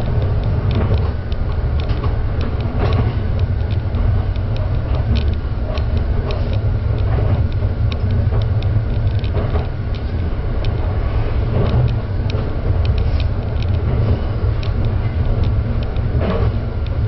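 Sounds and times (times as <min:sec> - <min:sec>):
carriage creaks and clicks: 0:00.0 - 0:17.0
train rumble: 0:00.0 - 0:17.0.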